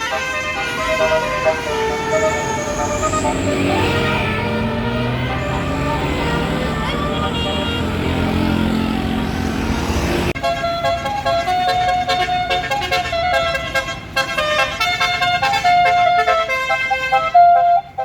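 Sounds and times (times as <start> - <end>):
multi-tone horn playing a tune: 0.0 - 8.6, 10.3 - 18.0
bus engine: 0.0 - 18.0
traffic rumble: 0.0 - 18.0.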